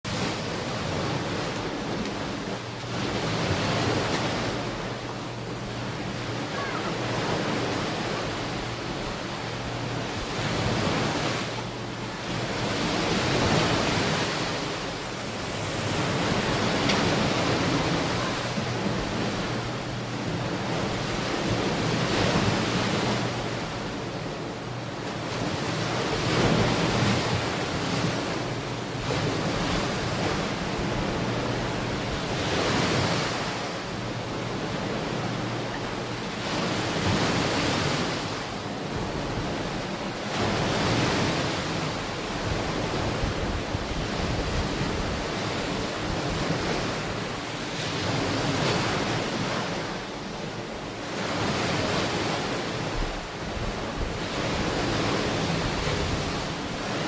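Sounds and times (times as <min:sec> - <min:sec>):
ocean waves washing onto beach: 0:00.0 - 0:57.0.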